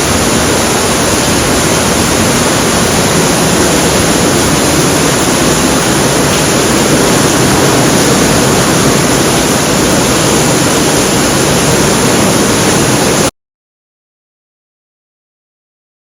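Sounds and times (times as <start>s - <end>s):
heavy rain pouring: 0.0s - 13.3s.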